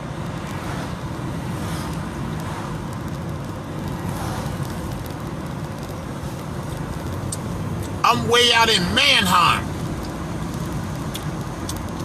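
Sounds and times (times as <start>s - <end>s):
road and vehicle noise: 0.0s - 12.0s.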